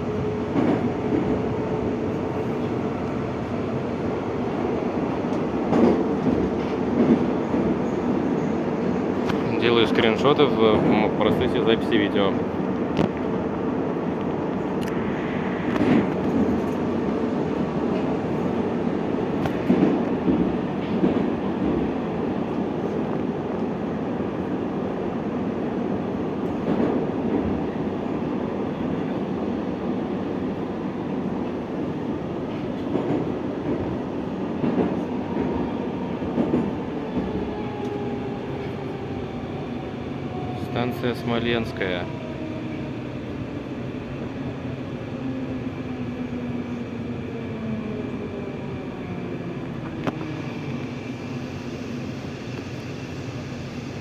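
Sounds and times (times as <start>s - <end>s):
train rumbling in tunnel: 0.0s - 54.0s.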